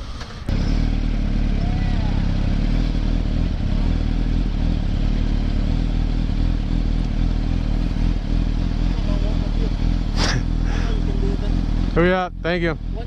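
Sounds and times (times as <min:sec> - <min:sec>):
motorcycle engine running low revs: 0:00.0 - 0:13.0.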